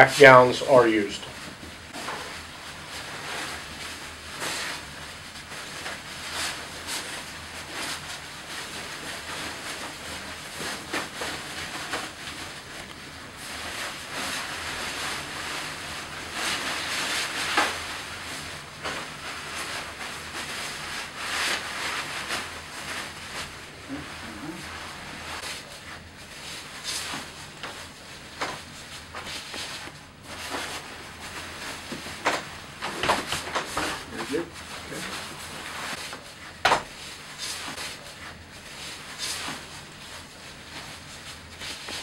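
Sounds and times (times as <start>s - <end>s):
plastic gown rustling and crinkling: 0.2s - 42.0s.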